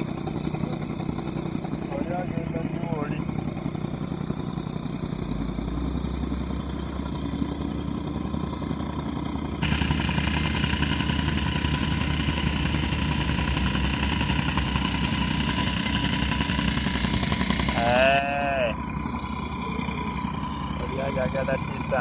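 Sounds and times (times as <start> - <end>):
motorcycle engines: 0.0 - 22.0
road-building machinery running: 0.0 - 22.0.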